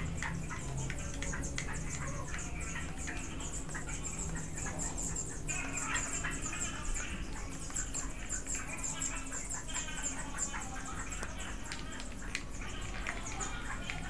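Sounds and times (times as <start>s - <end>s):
high fast chirping: 0.0s - 14.0s
steady low hum: 0.0s - 14.0s.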